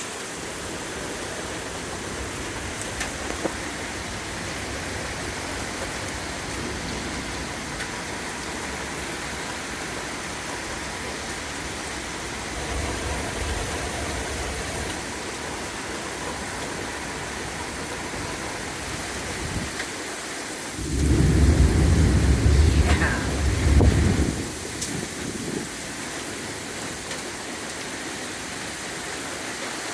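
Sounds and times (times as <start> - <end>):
heavy rain pouring: 0.0 - 29.9
thunder rumbling: 0.4 - 19.8, 20.7 - 26.2.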